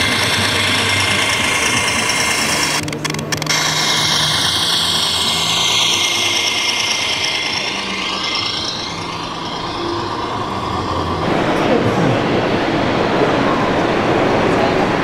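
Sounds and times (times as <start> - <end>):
busy hall noise: 0.0 - 15.0
model truck electric whine: 0.0 - 15.0.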